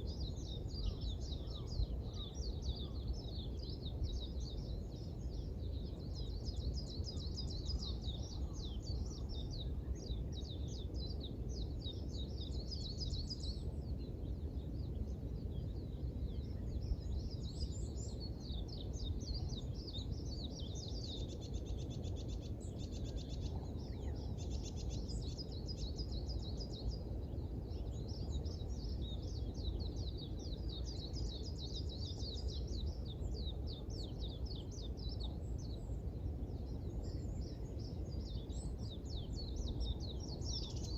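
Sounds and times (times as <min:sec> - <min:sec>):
low background rumble: 0:00.0 - 0:40.9
songbirds chirping: 0:00.0 - 0:40.9.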